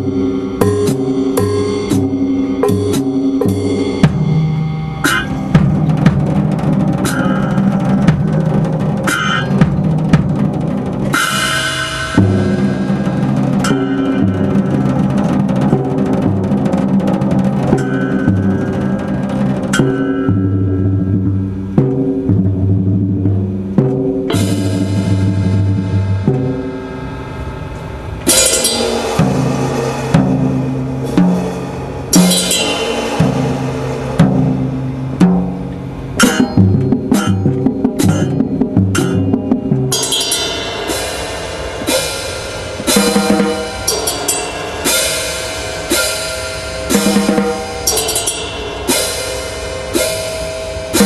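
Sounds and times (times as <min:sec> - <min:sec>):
cymbal crashes: 0:00.0 - 0:51.0
drums and percussion playing: 0:00.0 - 0:51.0
held pitched notes: 0:00.0 - 0:51.0.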